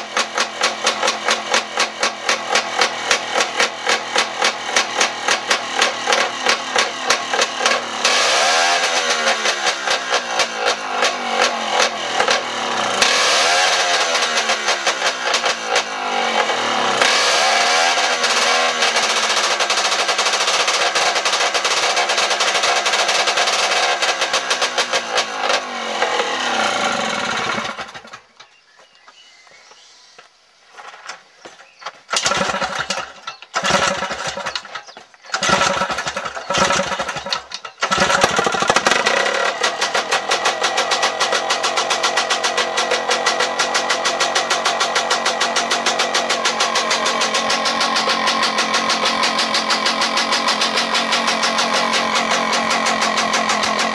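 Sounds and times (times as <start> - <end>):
two-stroke stationary engine running: 0.0 - 28.2, 32.1 - 53.9.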